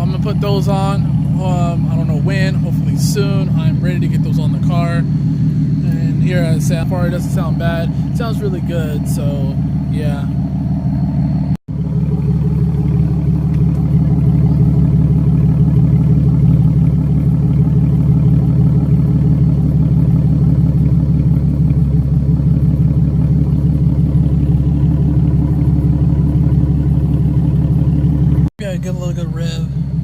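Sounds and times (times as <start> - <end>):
deep car exhaust rumble: 0.0 - 30.0.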